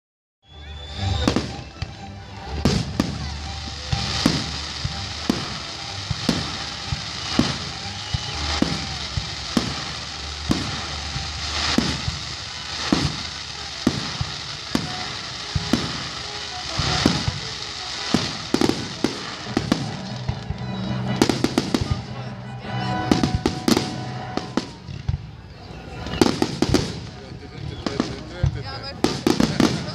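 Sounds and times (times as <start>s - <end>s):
fireworks hiss and crackle: 0.5s - 29.9s.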